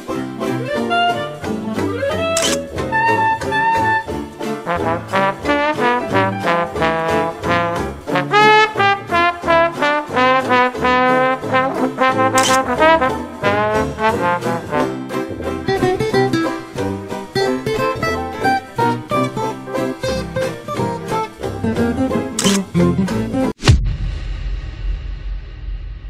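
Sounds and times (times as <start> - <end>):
jazz music with brass: 0.1 - 23.5.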